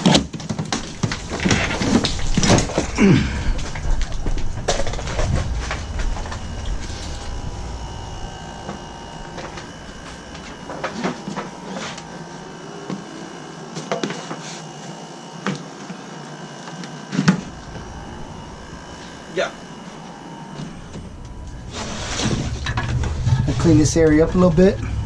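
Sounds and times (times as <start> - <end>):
faint steady hum: 0.1 - 25.0.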